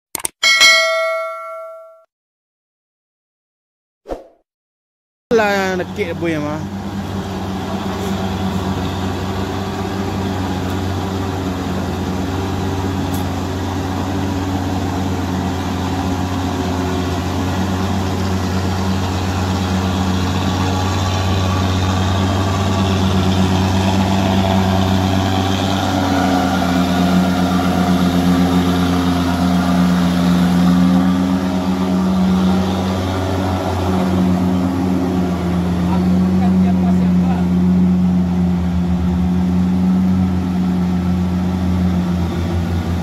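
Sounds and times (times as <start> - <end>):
diesel truck engine labouring: 5.3 - 43.0.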